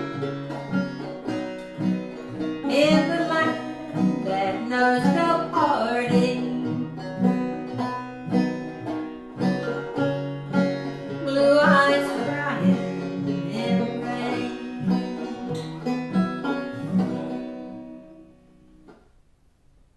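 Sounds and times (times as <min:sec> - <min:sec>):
acoustic guitar playing: 0:00.0 - 0:19.2.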